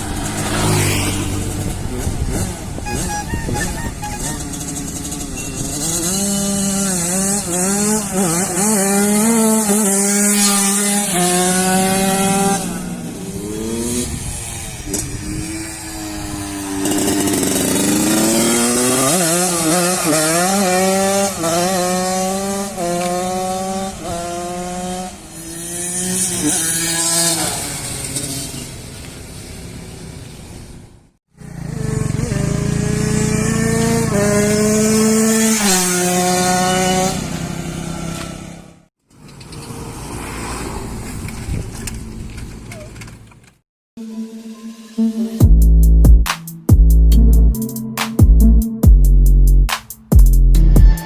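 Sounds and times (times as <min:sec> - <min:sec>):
moped accelerating through gears: 0:00.0 - 0:30.6, 0:31.3 - 0:42.0.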